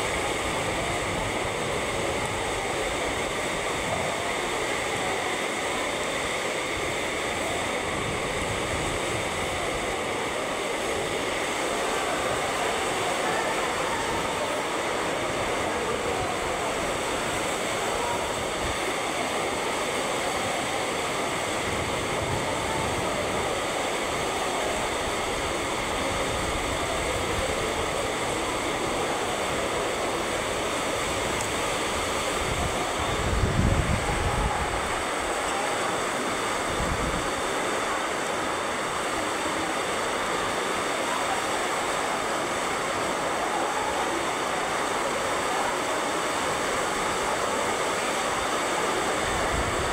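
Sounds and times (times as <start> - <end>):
torrential rain hissing: 0.0 - 49.9.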